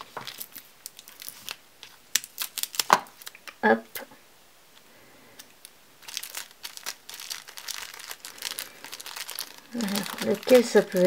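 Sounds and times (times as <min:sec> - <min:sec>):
plastic bag crinkling: 0:00.0 - 0:03.6, 0:05.6 - 0:11.0.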